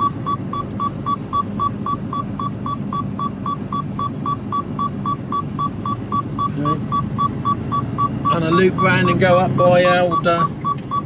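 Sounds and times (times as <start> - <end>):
seatbelt warning beeper: 0.0 - 11.0
truck engine running: 0.0 - 11.0.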